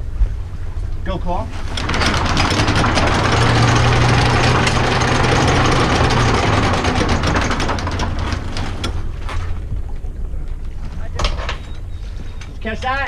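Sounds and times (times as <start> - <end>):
windlass motor hum: 0.0 - 13.0.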